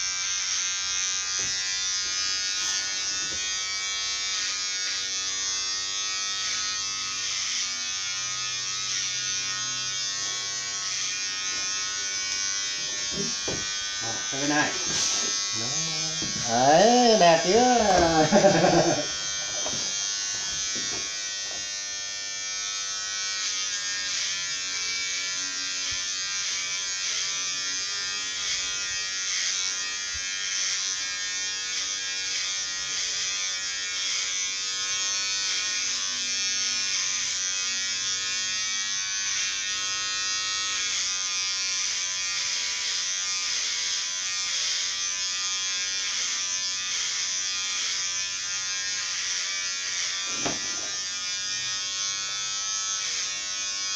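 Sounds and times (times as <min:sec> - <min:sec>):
electric hair clippers buzzing: 0:00.0 - 0:53.9.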